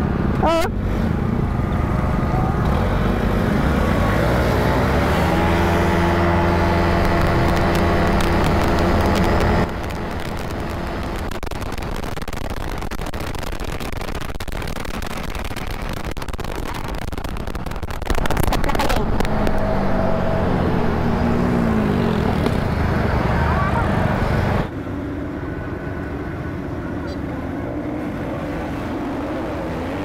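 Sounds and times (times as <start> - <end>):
rough rush of riding noise: 0.0 - 24.8.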